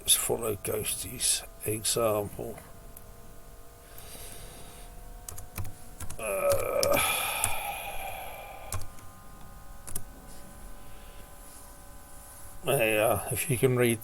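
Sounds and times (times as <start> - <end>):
humming tone: 0.0 - 14.0.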